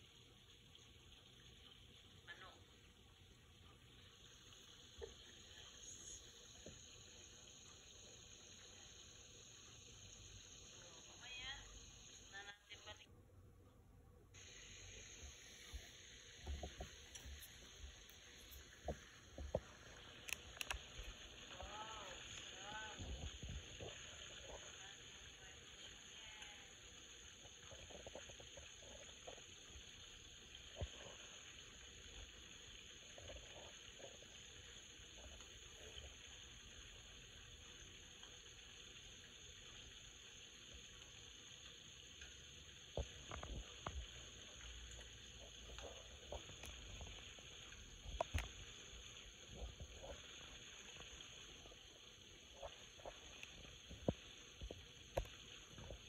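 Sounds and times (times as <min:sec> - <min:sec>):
oil sizzling with pops: 0:00.0 - 0:13.0, 0:14.3 - 0:56.0.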